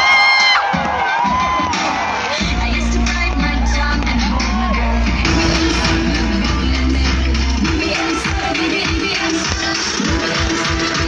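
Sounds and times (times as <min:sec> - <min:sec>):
crowd cheering and whooping: 0:00.0 - 0:09.1
music: 0:00.0 - 0:11.0.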